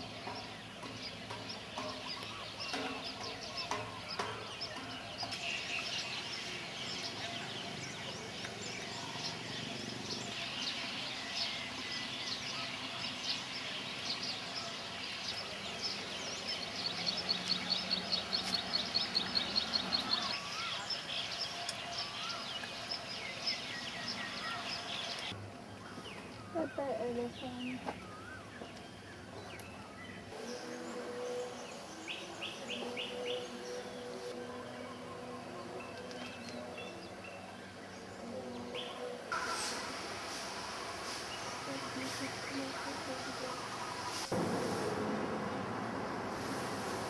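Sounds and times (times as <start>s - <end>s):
birds chirping chorus: 0.0s - 47.0s.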